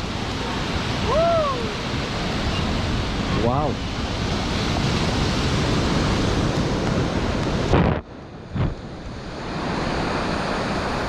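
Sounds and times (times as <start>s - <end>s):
ocean surf: 0.0s - 11.0s
wind blowing on microphone: 0.0s - 11.0s.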